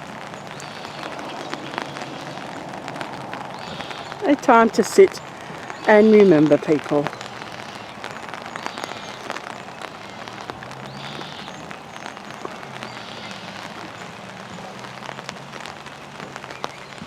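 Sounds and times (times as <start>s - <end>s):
rain drops tapping on umbrella: 0.0s - 17.0s.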